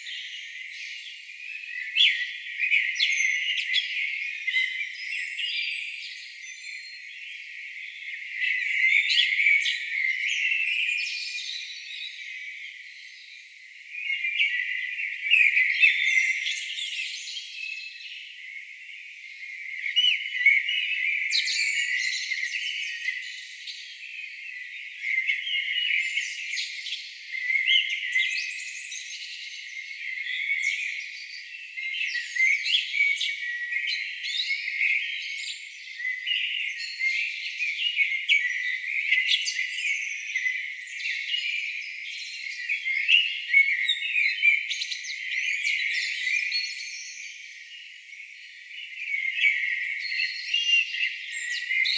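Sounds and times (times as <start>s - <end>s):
songbirds chorus: 0.0s - 51.9s.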